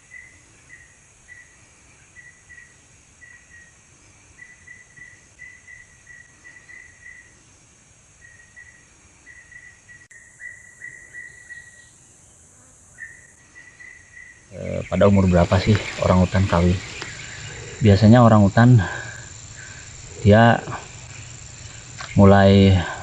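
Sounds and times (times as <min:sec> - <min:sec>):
high-pitched insect drone: 0:00.0 - 0:23.0
insect chirping in pulses: 0:00.0 - 0:23.0.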